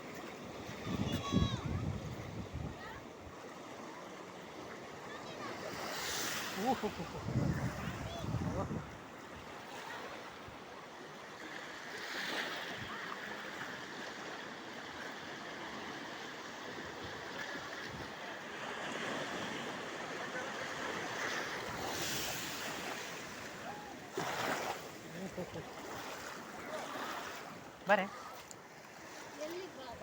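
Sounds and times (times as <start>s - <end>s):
sea waves washing on shore: 0.0s - 30.0s.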